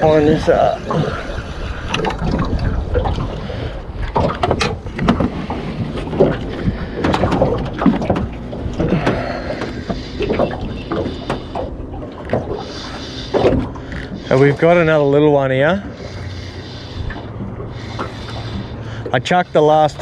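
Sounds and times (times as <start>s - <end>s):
knocks and clunks on boat: 0.0s - 20.0s
steady low rumble: 0.0s - 20.0s.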